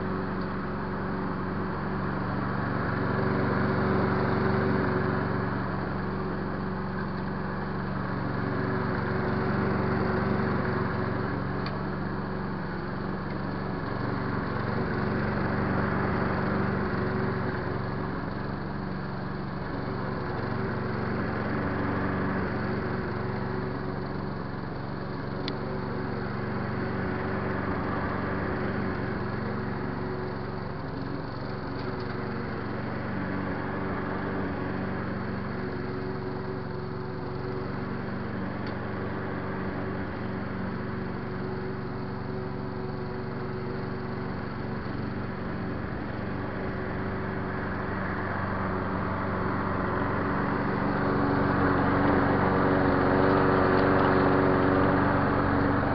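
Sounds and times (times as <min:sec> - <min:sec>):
lawn mower engine running: 0:00.0 - 0:55.9
mower sucking up thatch: 0:00.0 - 0:55.9.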